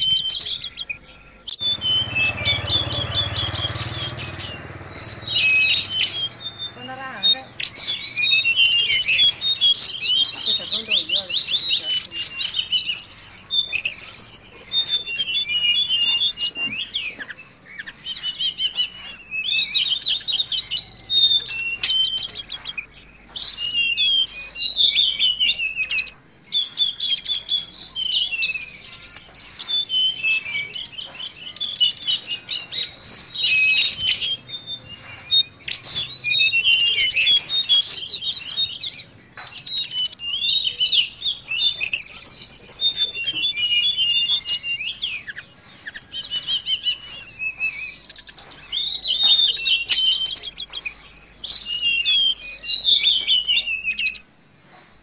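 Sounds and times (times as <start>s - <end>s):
bird singing chirps and trills: 0.0s - 54.4s.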